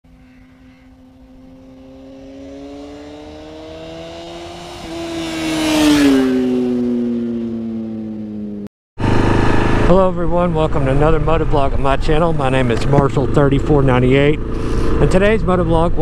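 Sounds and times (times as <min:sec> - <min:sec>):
motor vehicle passing by: 0:00.1 - 0:16.0.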